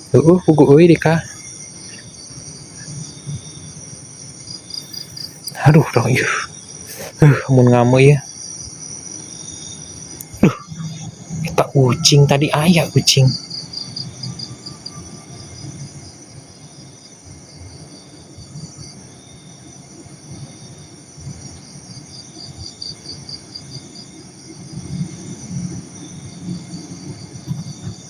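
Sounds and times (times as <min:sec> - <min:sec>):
night insects trilling: 0:00.0 - 0:28.0.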